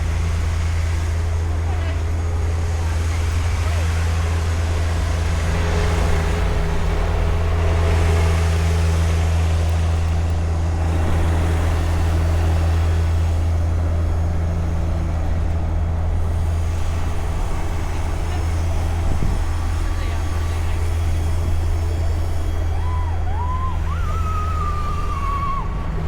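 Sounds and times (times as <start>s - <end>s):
city street noise: 0.0s - 26.0s
heavy vehicle engine hum: 0.0s - 26.0s.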